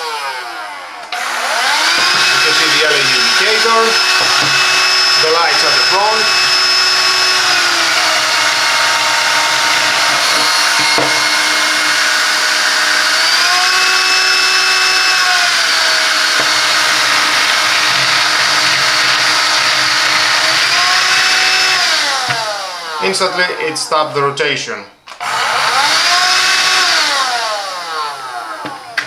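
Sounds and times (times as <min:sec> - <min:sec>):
vacuum cleaner motor whine: 0:00.0 - 0:24.2, 0:25.1 - 0:29.0.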